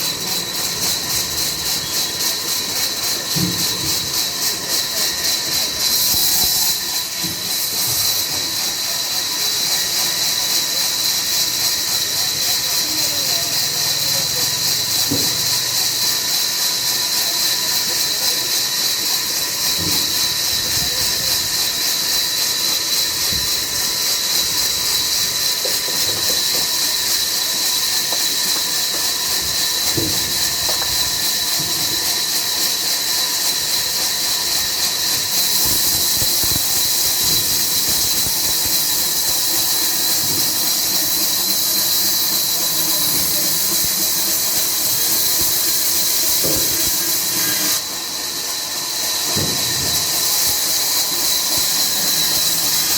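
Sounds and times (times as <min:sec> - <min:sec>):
sawmill machinery hissing and squealing: 0:00.0 - 0:52.9.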